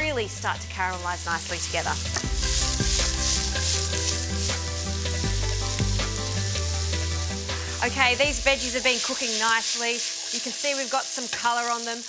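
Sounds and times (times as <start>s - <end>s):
soft background music: 0.0s - 12.0s
vegetables sizzling in oil: 0.2s - 12.0s.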